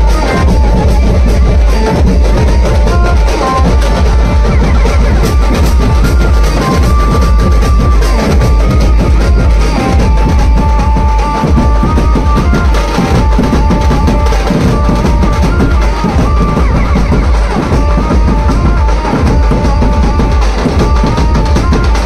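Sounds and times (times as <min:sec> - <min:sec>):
bass drum and dhol beats: 0:00.0 - 0:22.0
high lead melody: 0:00.0 - 0:22.0.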